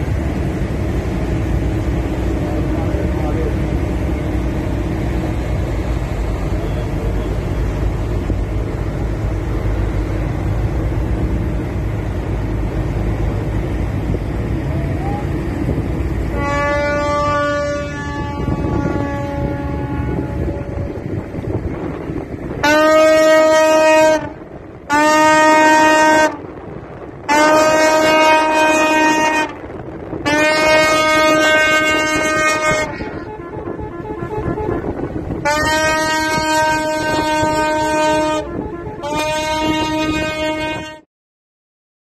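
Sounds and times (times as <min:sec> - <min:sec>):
churning water: 0:00.0 - 0:41.0
low rumble of engines: 0:00.0 - 0:41.0
tugboat horn blasts: 0:00.0 - 0:41.1.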